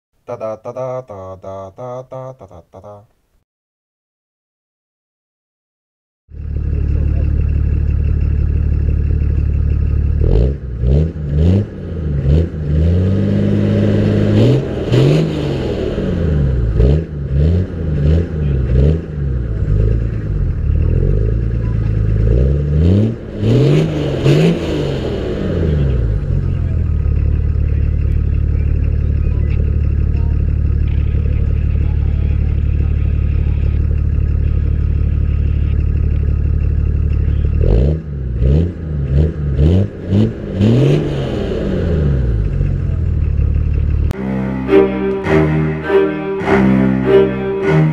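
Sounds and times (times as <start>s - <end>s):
diesel engine idling and revving: 6.3s - 47.9s.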